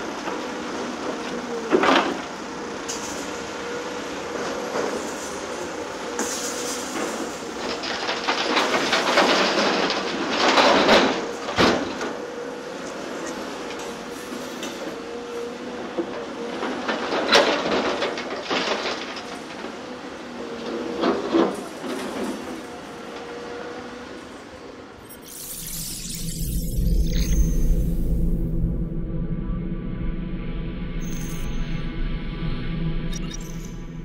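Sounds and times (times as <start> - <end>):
excavator working: 0.0 - 34.0.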